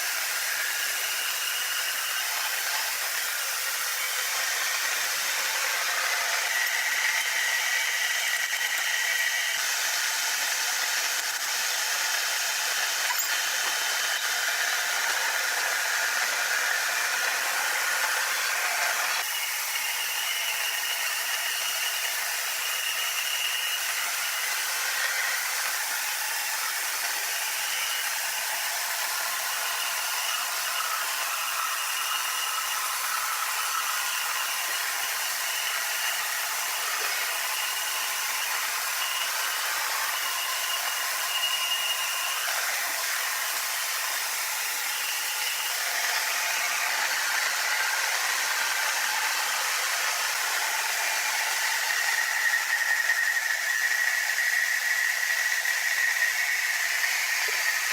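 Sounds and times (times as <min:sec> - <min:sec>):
sawmill machinery whirring: 0:00.0 - 0:57.9.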